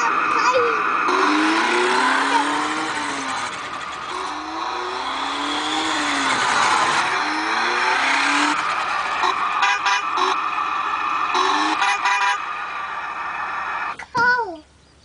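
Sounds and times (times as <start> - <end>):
toy car motor revving: 0.0 - 13.6.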